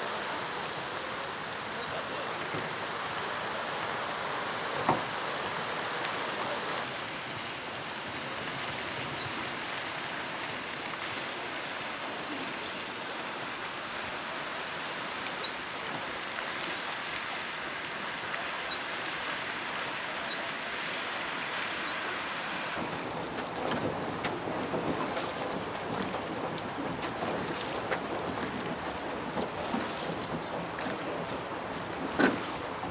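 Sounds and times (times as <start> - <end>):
fountain jets splashing into water: 0.0 - 32.9.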